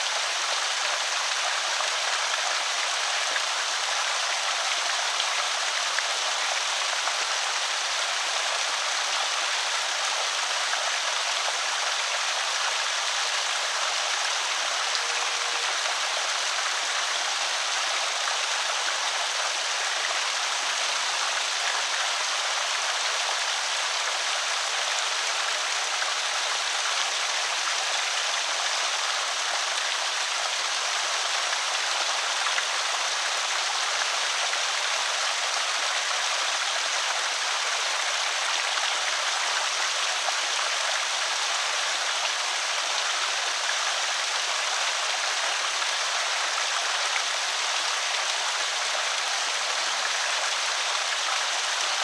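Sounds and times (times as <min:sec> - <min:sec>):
water rushing over spillway: 0:00.0 - 0:52.0.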